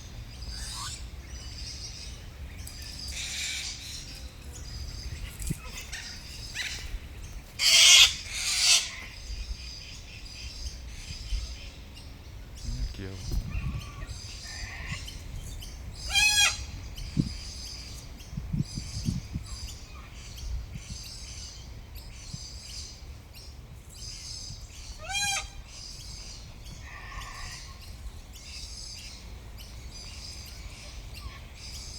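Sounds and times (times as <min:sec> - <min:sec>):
harsh bird calls: 0:00.0 - 0:21.6, 0:24.1 - 0:31.9.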